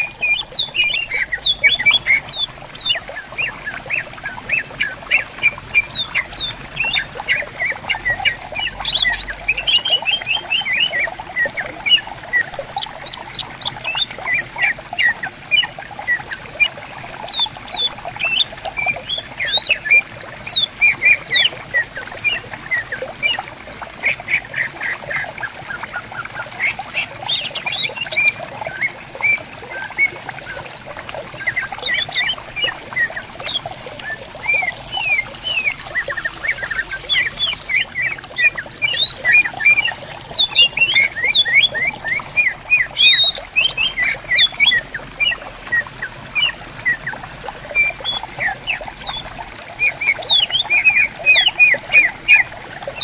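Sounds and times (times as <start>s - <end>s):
birds singing and calling: 0.0s - 53.0s
faint running water hiss: 0.0s - 53.0s.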